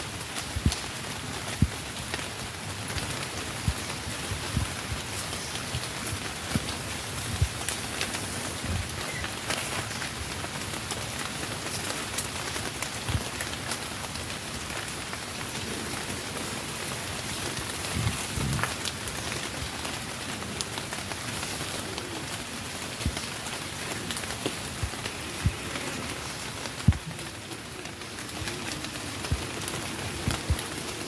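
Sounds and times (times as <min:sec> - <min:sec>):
rain on leaves: 0:00.0 - 0:31.0.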